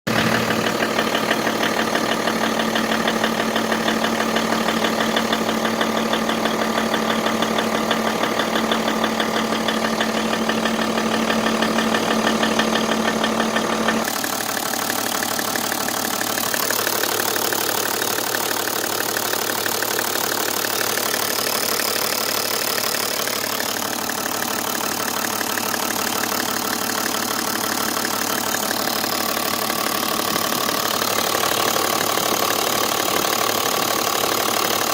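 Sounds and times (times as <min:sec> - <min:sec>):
diesel engine idling: 0:00.1 - 0:34.9
fast engine knock ticking: 0:00.1 - 0:34.9.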